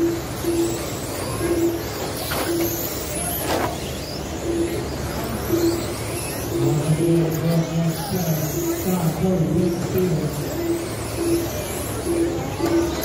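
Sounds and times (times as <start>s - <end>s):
electric rc car motors whining: 0.0s - 13.0s.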